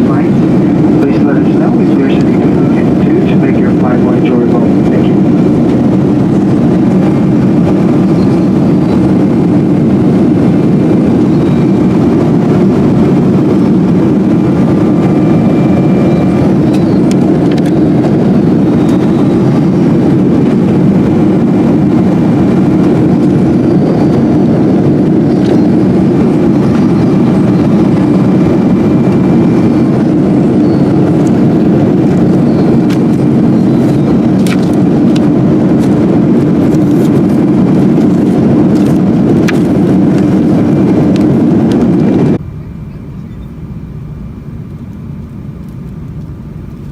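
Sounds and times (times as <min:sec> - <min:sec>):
jet engine cabin rush: 0:00.0 - 0:46.9.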